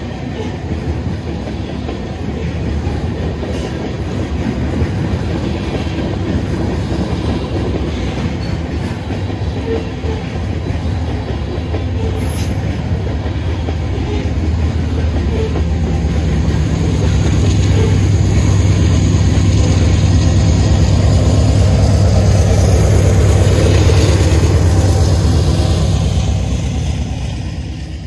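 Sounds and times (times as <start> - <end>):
freight train wheels rumbling: 0.0 - 28.0.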